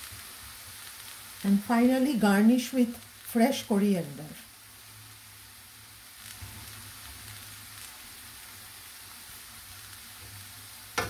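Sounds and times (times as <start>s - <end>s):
beans sizzling in a pan: 0.0s - 11.0s.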